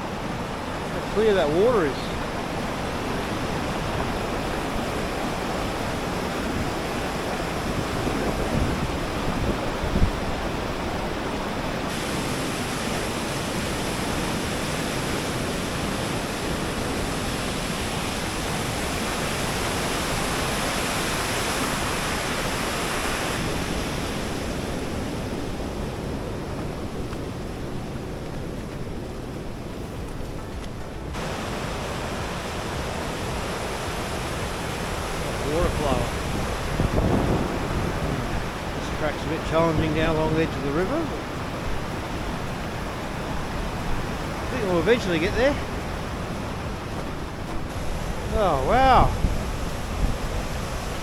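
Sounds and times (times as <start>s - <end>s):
river rushing over rocks: 0.0s - 25.4s, 31.0s - 51.0s.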